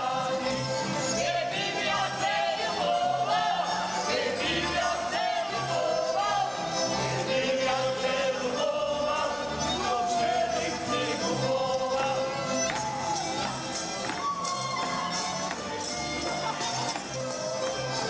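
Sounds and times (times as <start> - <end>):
voices singing folk song: 0.0 - 18.0.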